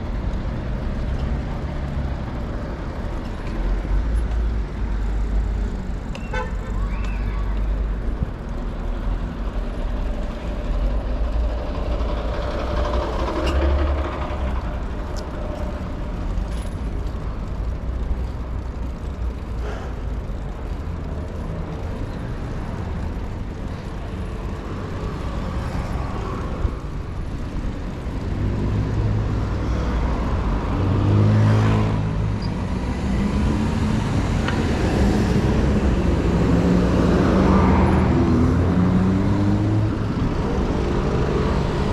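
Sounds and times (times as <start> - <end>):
motor vehicles passing: 0.0 - 41.9.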